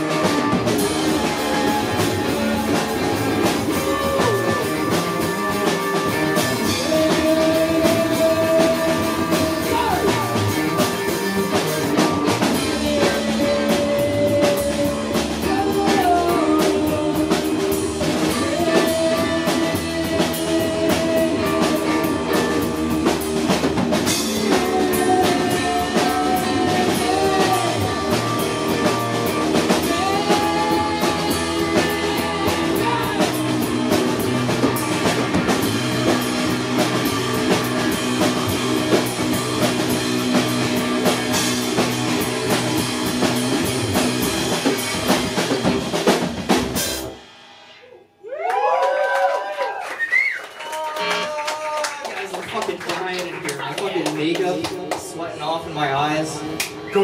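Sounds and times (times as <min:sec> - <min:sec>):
electric guitars playing: 0:00.0 - 0:47.2
drum kit playing: 0:00.0 - 0:48.1, 0:52.5 - 0:57.0.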